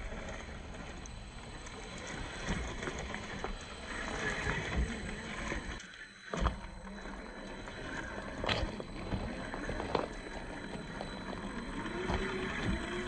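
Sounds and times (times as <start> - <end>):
small electric motor running: 0.0 - 13.0.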